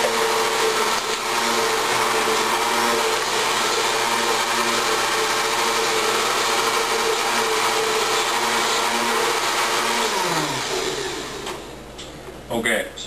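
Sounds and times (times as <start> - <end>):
blender motor running: 0.0 - 11.7.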